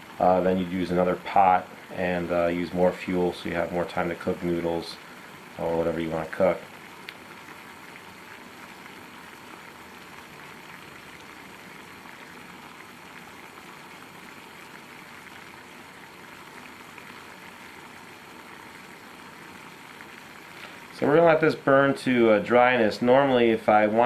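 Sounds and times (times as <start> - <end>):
water boiling in kettle: 0.0 - 24.0.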